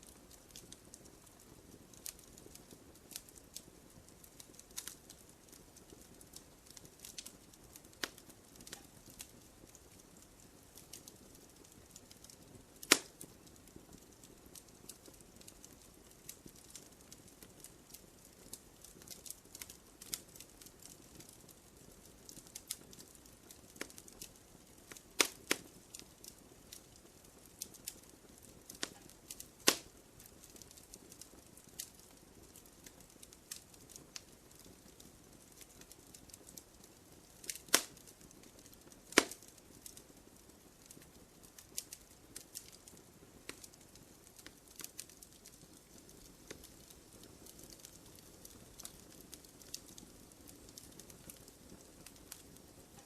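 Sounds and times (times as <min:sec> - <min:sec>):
fireplace fire crackling: 0:00.0 - 0:53.0.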